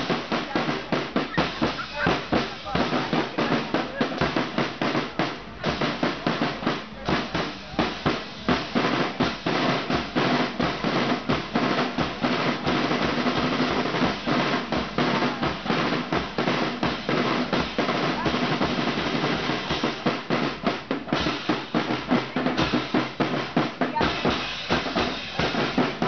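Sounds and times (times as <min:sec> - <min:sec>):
marching drum line: 0:00.0 - 0:26.0.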